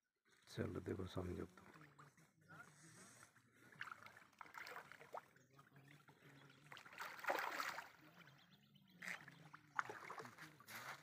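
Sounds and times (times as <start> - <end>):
water swishing and splashing: 0.5 - 11.0.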